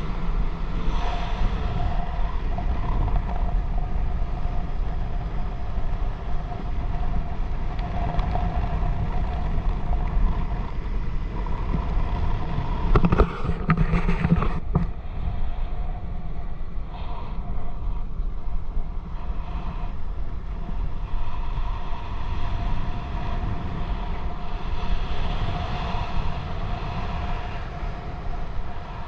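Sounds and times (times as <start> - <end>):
motorboat engine rumbling: 0.0 - 29.0.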